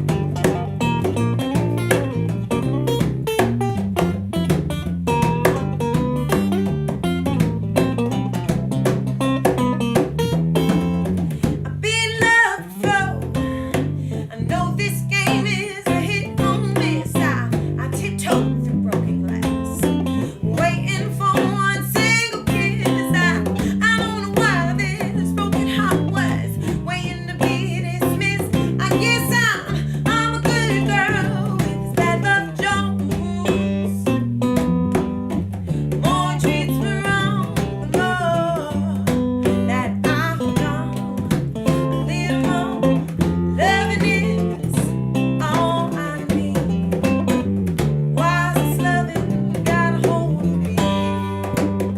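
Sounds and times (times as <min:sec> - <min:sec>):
bass line: 0:00.0 - 0:51.9
strummed guitar: 0:00.0 - 0:51.9.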